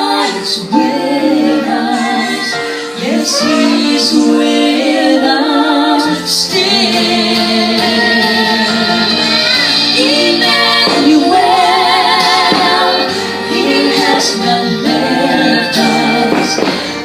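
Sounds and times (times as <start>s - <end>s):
woman singing a slow song: 0.0s - 9.2s, 10.0s - 17.0s.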